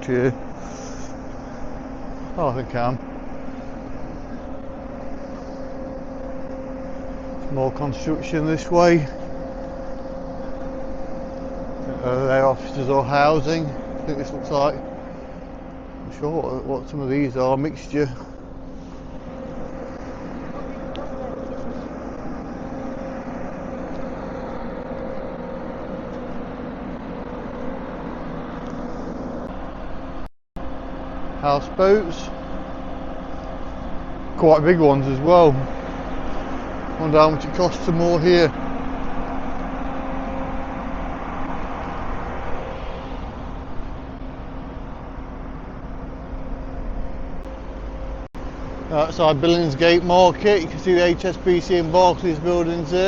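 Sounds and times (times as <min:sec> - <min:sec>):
city road traffic: 0:00.0 - 0:53.0
engine humming steadily: 0:00.0 - 0:53.0
urban noise: 0:00.0 - 0:53.0.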